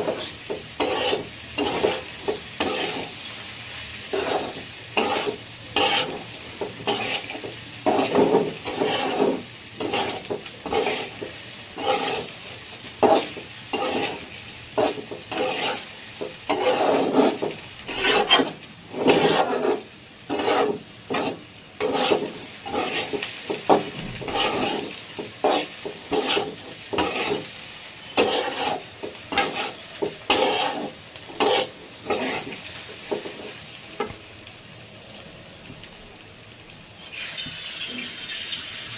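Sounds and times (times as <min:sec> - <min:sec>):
spatula scraping food in pan: 0:00.0 - 0:03.4, 0:04.0 - 0:33.6
faint sizzle of frying: 0:00.0 - 0:38.9.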